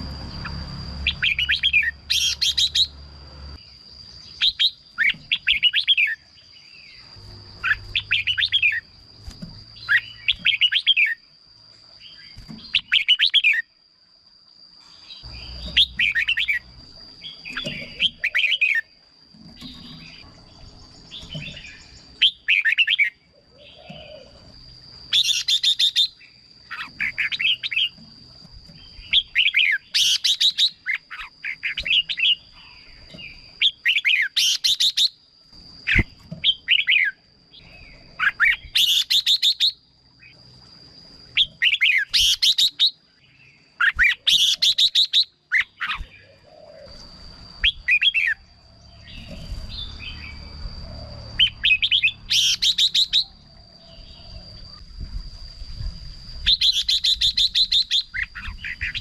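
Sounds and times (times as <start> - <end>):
bird singing warbled phrases: 0.4 - 3.0, 3.6 - 11.3, 12.0 - 13.7, 15.2 - 19.0, 19.6 - 24.4, 25.1 - 28.0, 28.6 - 35.2, 35.8 - 40.4, 41.3 - 54.7, 56.4 - 59.0.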